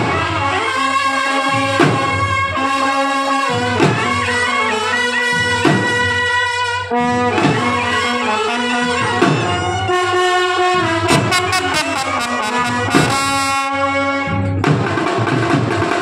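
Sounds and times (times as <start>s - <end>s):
brass band playing: 0.0s - 16.0s
drum beats: 0.0s - 16.0s.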